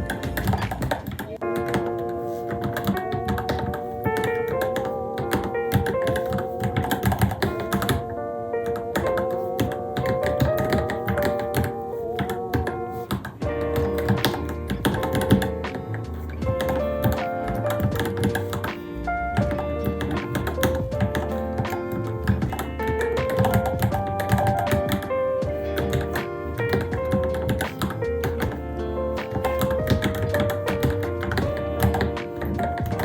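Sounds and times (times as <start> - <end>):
background music with melody: 0.0 - 33.0
mechanical keyboard typing: 0.0 - 33.0.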